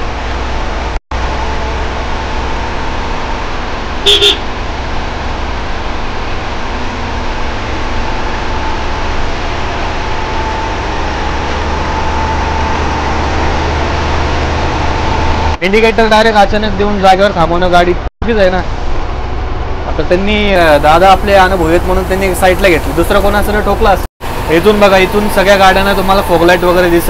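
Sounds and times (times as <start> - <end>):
tyres on wet road: 0.0 - 15.6, 18.6 - 27.0
bus engine rumble: 0.0 - 27.0.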